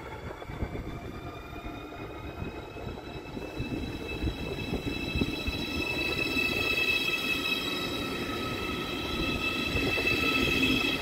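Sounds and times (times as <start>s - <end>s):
electric train traction whine: 0.0s - 11.0s.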